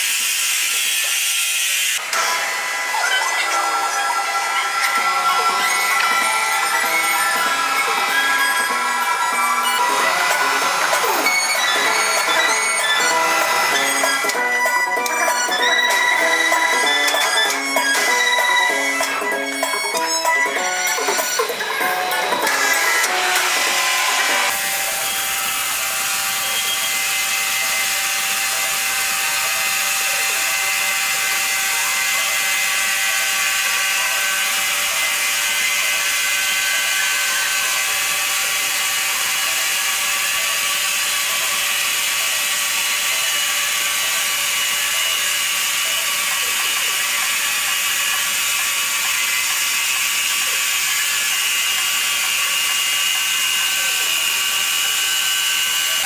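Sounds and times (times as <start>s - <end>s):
sawmill saw machinery running: 0.0s - 56.0s.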